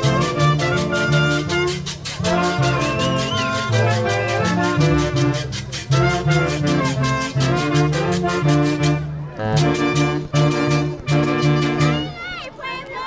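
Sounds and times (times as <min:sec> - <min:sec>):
brass band music: 0:00.0 - 0:12.3.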